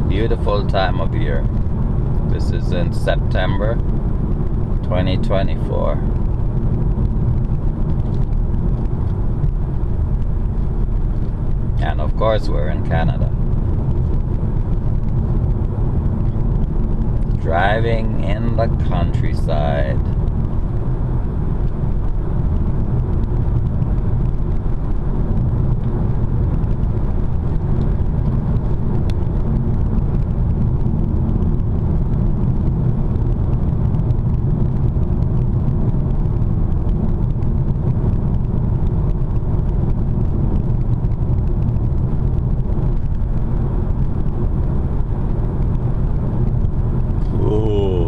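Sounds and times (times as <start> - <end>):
car road and tyre noise: 0.0 - 48.0.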